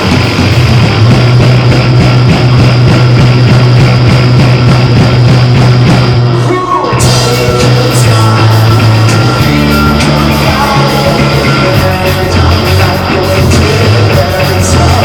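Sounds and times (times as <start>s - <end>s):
live band playing loud music: 0.0s - 15.0s
low bass line: 0.0s - 15.0s.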